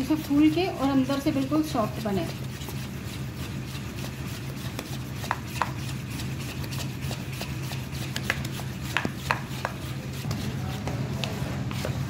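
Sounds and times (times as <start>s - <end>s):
spoon beating batter: 0.0s - 12.0s
steady low hum: 0.0s - 12.0s.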